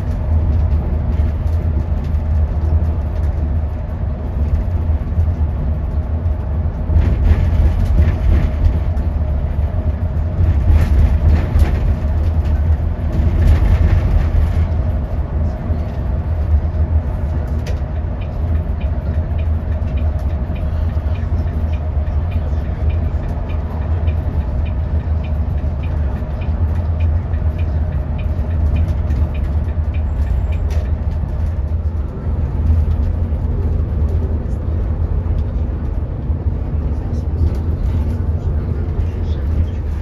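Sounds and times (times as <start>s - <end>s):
vehicle interior rumble: 0.0s - 40.0s.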